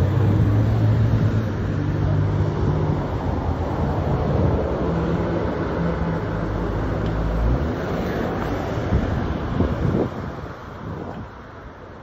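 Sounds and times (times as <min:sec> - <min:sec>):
city traffic hum: 0:00.0 - 0:12.0
vehicle engines passing: 0:00.0 - 0:12.0
wind rushing over microphone: 0:00.0 - 0:12.0.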